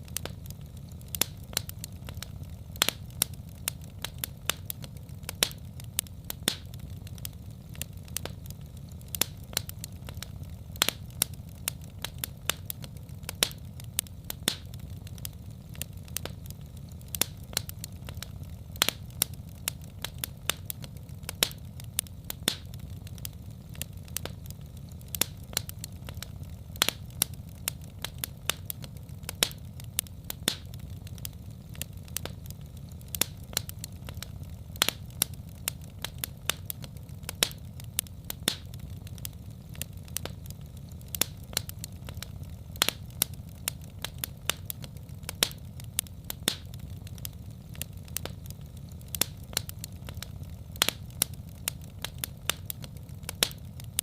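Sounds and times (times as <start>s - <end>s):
low rumble of fire: 0.0s - 54.0s
wood fire crackling: 0.0s - 54.0s.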